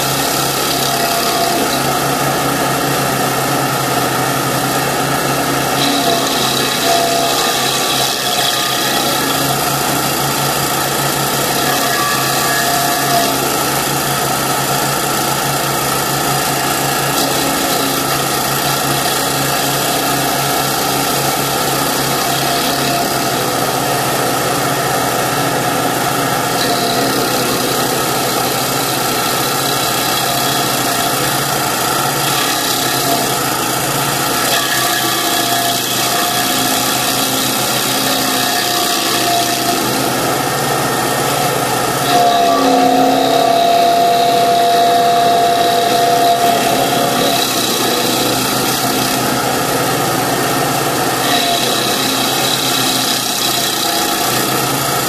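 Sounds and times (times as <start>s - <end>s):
loader engine running: 0.0s - 53.4s.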